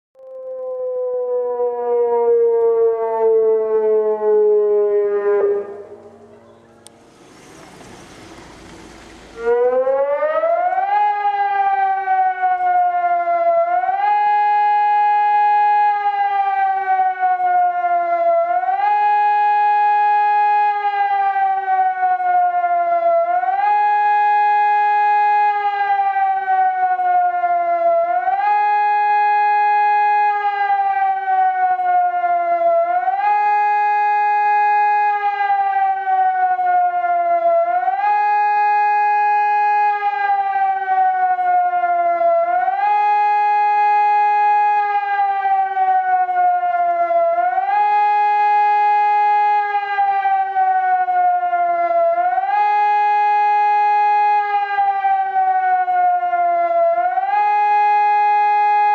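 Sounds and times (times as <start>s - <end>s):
electronic siren wailing: 0.2s - 58.9s.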